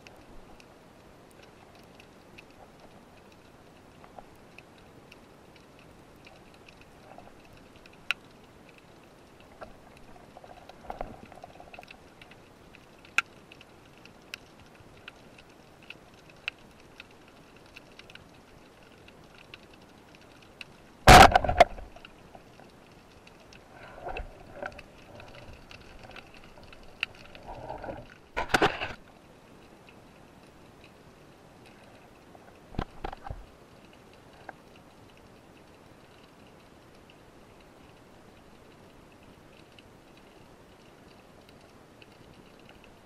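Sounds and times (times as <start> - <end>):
underwater clicks and ticks: 0.0 - 43.0.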